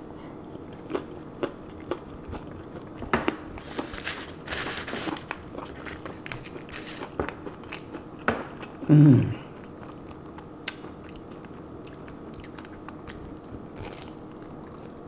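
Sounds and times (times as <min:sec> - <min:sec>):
chewing crunchy taco shell: 0:00.4 - 0:15.0.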